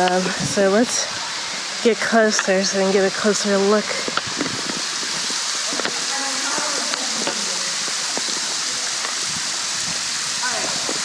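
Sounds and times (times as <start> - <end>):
waterfall spattering on rocks: 0.0 - 11.0.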